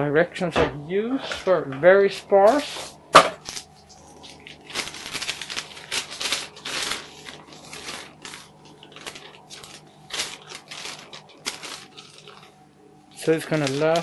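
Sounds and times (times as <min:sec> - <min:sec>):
paper rustling and crinkling: 0:01.2 - 0:14.0.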